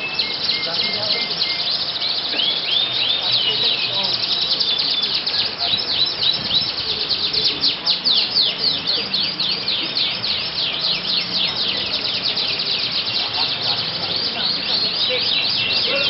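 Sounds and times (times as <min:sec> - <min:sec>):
canaries singing: 0:00.0 - 0:16.0.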